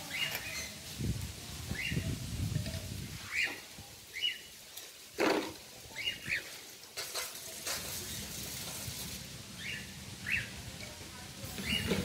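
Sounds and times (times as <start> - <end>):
hissing rustle: 0.0 - 12.0.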